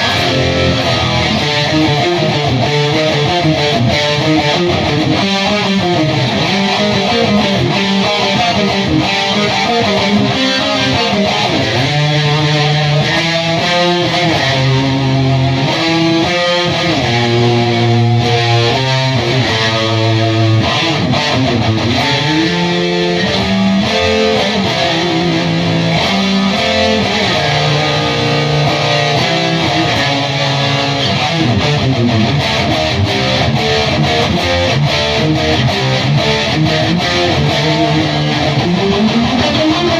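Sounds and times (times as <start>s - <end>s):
distorted electric guitars metal: 0.0s - 39.9s.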